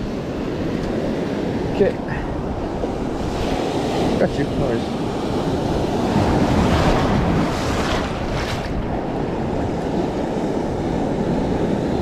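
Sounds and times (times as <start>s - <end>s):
wind buffeting microphone: 0.0s - 12.0s
surf breaking over reef: 1.4s - 12.0s.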